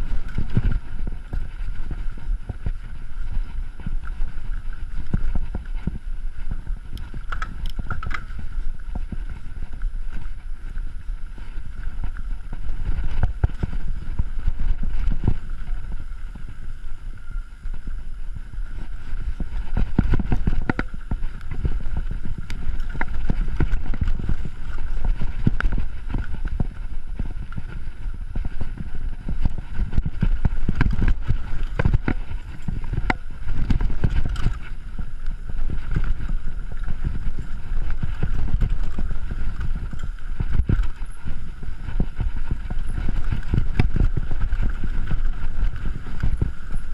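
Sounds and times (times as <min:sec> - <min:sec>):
bike rattling over bumps: 0:00.0 - 0:46.9
bike tyres rumbling on dirt: 0:00.0 - 0:46.9
wind on microphone: 0:00.0 - 0:46.9.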